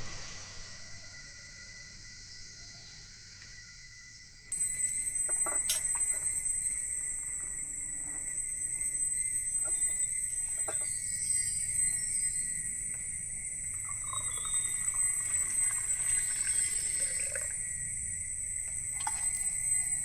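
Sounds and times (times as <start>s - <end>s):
high-pitched insect drone: 0.0s - 20.0s
rainforest ambience: 0.0s - 20.0s.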